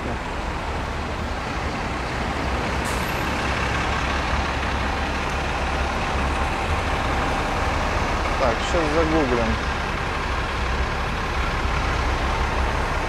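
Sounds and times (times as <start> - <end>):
heavy road traffic rumble: 0.0 - 13.0.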